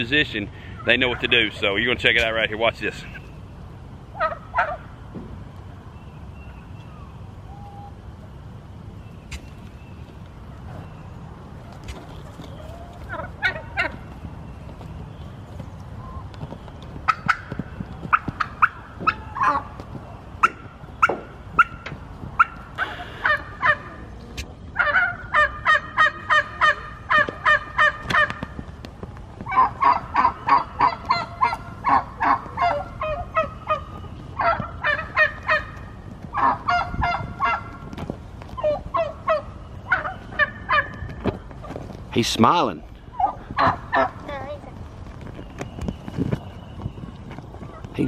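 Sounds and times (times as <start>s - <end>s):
turkeys yelping: 0.6s - 8.2s, 9.0s - 42.0s, 43.0s - 47.9s.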